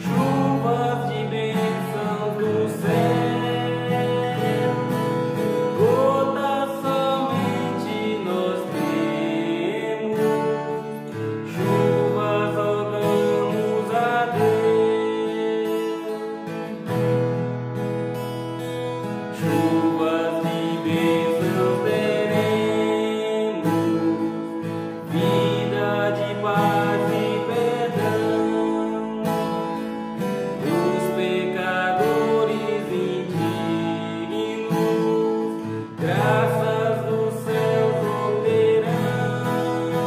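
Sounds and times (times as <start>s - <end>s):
man singing a hymn: 0.0s - 16.6s, 19.3s - 40.0s
acoustic guitar strumming: 0.0s - 40.0s.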